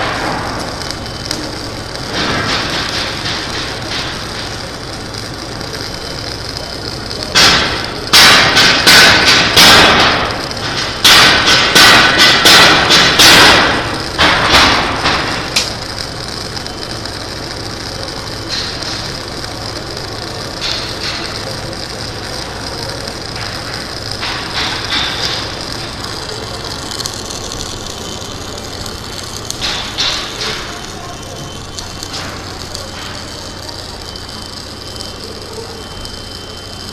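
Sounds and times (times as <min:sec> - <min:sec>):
arc welding crackling hiss: 0:00.0 - 0:36.9.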